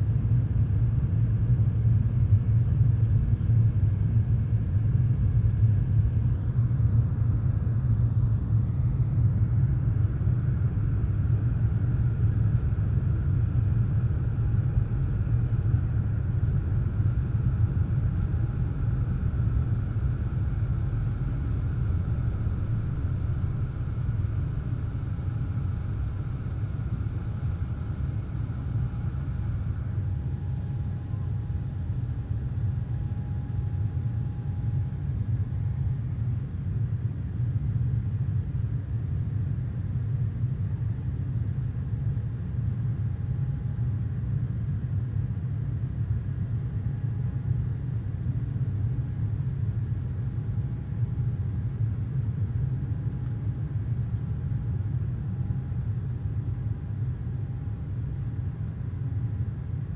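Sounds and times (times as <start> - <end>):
faint steady whine: 0.0 - 59.9
jet engine cabin rumble: 0.0 - 59.9.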